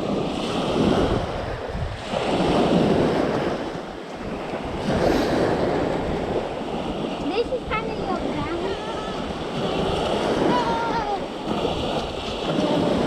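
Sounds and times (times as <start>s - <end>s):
waves washing on shore: 0.0s - 13.0s
wind buffeting microphone: 0.0s - 13.0s.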